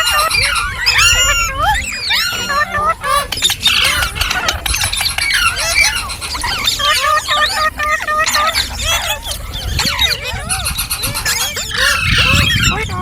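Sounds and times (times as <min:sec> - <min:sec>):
parrots chirping and squawking: 0:00.0 - 0:13.0.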